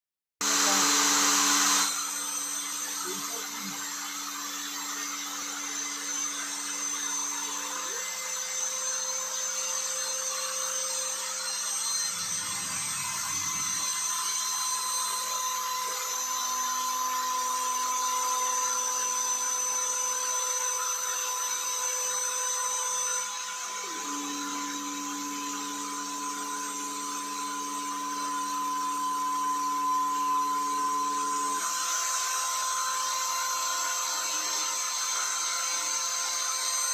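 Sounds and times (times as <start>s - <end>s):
router spindle whining: 0.4s - 36.9s.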